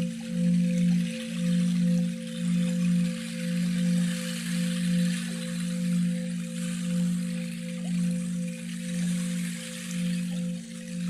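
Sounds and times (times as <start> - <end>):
meditation bell ringing: 0.0 - 11.0.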